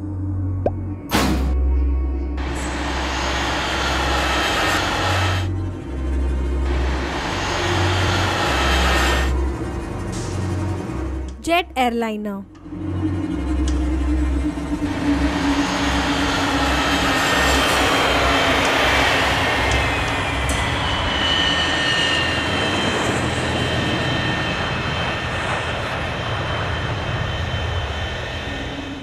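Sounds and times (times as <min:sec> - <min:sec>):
jet engines roaring: 0:02.4 - 0:11.1, 0:13.7 - 0:29.0.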